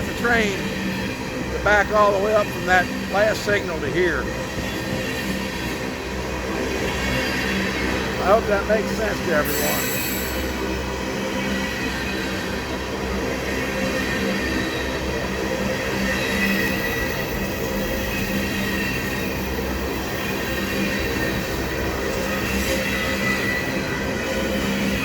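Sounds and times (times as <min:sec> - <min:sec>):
high whine of wheels on rail: 0:00.0 - 0:25.0
train wheels rumbling on rails: 0:00.0 - 0:25.0.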